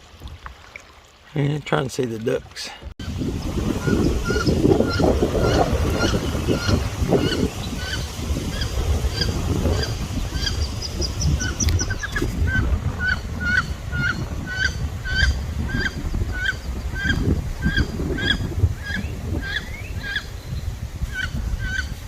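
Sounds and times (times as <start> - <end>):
waterfowl calling: 3.0 - 20.4, 21.1 - 22.0
wind noise on microphone: 3.0 - 22.0.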